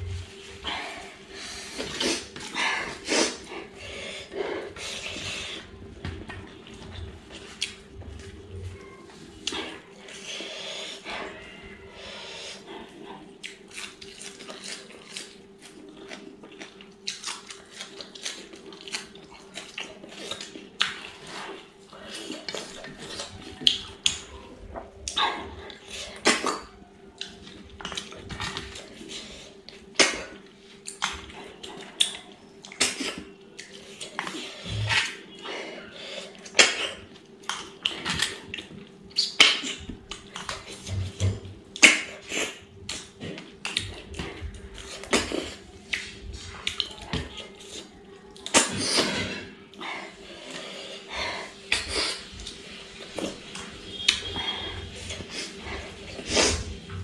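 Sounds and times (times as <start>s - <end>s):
chewing and mouth noises: 0.0s - 11.6s, 12.6s - 35.5s, 36.1s - 57.0s
faint steady hum: 0.0s - 57.0s.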